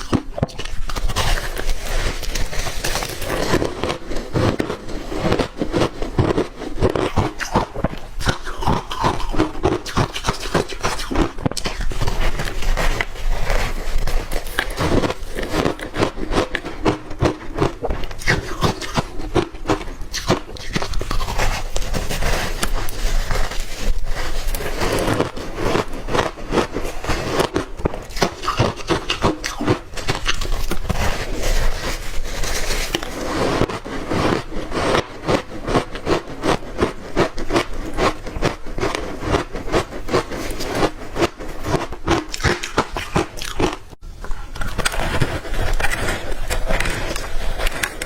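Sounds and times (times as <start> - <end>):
ice crunching while chewed: 0.0 - 48.0.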